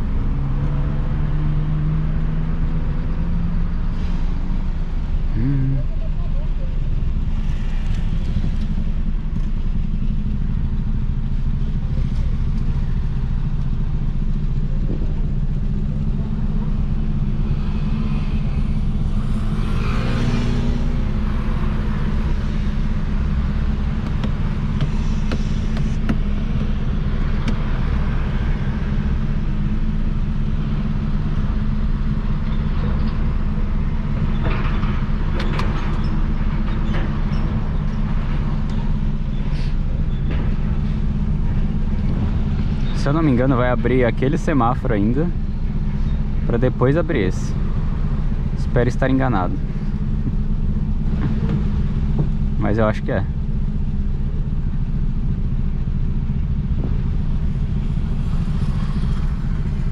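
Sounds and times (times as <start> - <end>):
car engine idling: 4.9 - 59.9.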